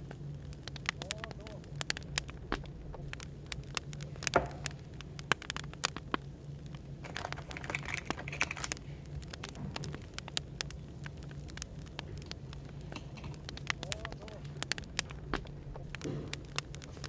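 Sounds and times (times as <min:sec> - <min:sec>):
fire crackling and popping: 0:00.0 - 0:17.0
low background white noise: 0:00.0 - 0:17.0.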